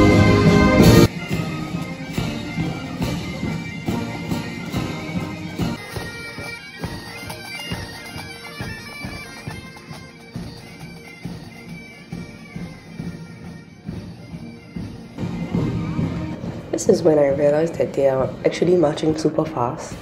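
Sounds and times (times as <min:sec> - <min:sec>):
drum beats: 0:00.0 - 0:20.0
pipe band bagpipes playing: 0:00.0 - 0:20.0.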